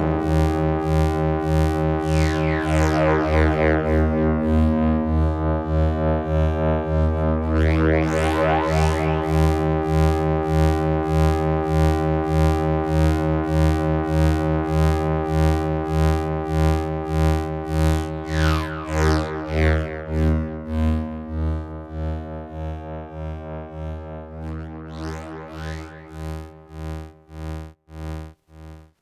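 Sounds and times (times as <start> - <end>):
pulsing synth drone: 0.0 - 28.3.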